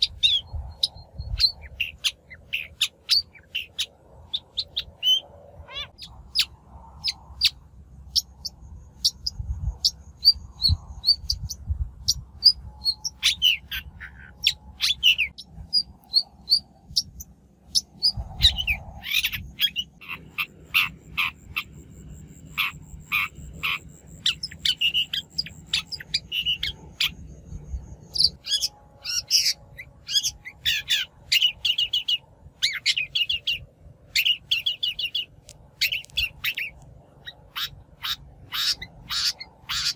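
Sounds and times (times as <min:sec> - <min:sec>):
bird chattering calls: 0:00.0 - 0:07.6, 0:08.2 - 0:27.2, 0:28.1 - 0:33.6, 0:34.2 - 0:39.9.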